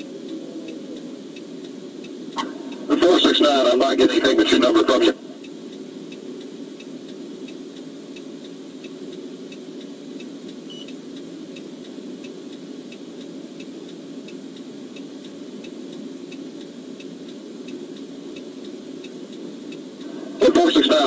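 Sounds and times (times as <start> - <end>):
light repeating tick: 0.0 - 3.5, 5.4 - 21.0
steady hum: 0.0 - 21.0.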